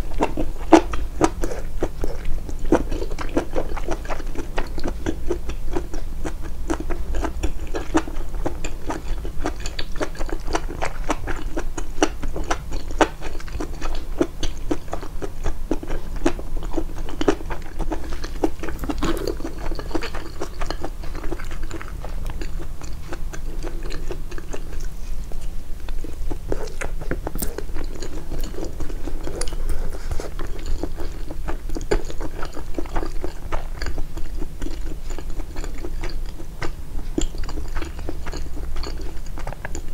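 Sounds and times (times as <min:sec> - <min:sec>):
chewing and biting food: 0:00.0 - 0:39.9.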